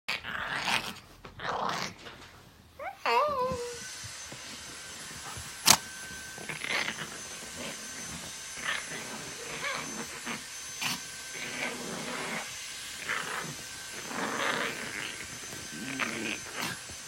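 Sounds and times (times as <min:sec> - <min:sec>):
small dogs growling: 0:00.1 - 0:03.9, 0:05.2 - 0:17.0.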